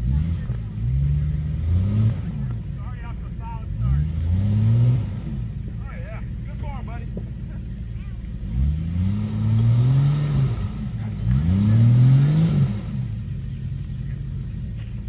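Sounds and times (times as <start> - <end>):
engine idling: 0.0 - 15.0
engine revving: 0.0 - 15.0.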